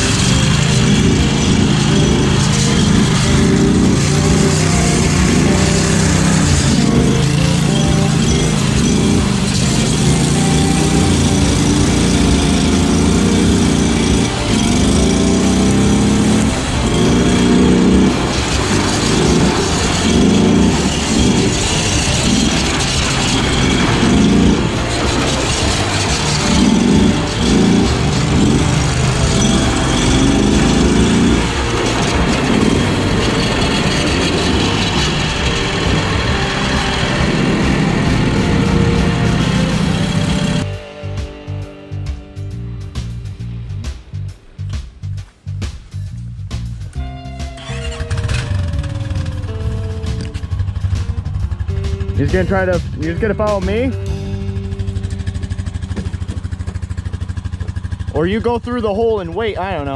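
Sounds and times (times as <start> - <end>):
mower engine revving: 0.0 - 59.9.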